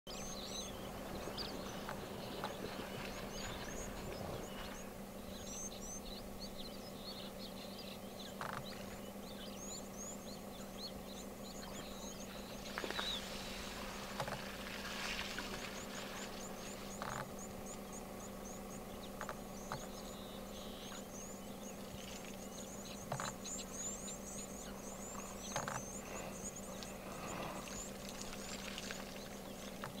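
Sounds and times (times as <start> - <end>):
small birds chirping: 0.1 - 30.0
steady low hum: 0.1 - 30.0.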